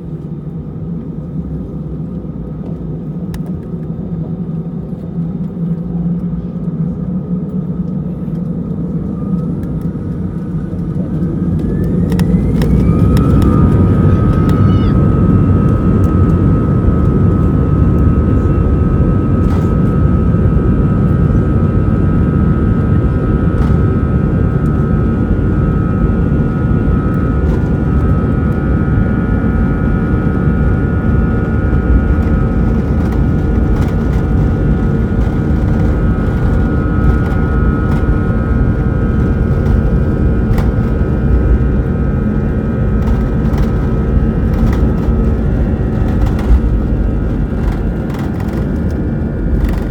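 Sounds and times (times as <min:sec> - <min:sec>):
jet engine high whine: 0:00.0 - 0:49.9
jet engine low rumble: 0:00.0 - 0:49.9.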